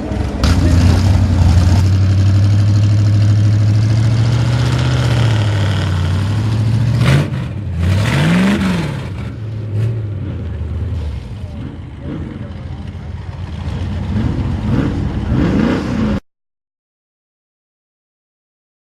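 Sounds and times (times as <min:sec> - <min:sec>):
loud truck engine revving: 0:00.0 - 0:16.2.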